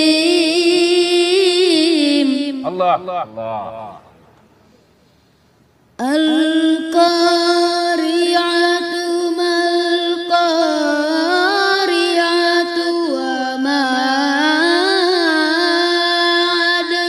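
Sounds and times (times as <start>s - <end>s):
boy reciting melodically: 0.0s - 4.0s, 6.0s - 17.0s.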